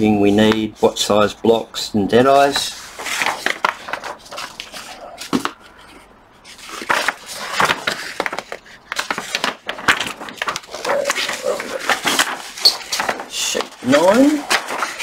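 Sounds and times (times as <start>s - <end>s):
paper sheets rustling: 2.3s - 15.0s.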